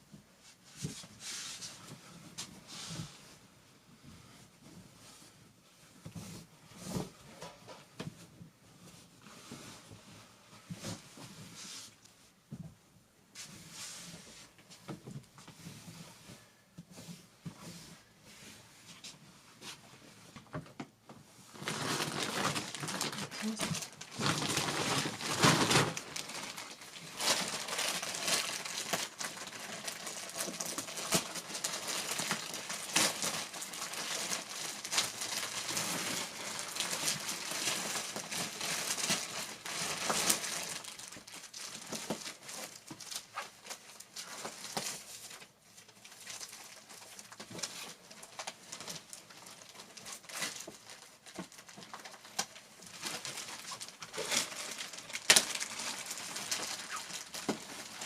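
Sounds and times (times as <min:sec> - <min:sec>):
crinkling and rustling: 0:00.0 - 0:58.0.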